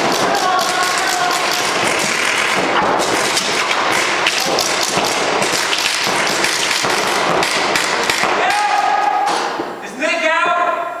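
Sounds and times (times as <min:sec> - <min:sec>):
paintball marker shots: 0:00.0 - 0:09.6
steady din: 0:00.0 - 0:09.8.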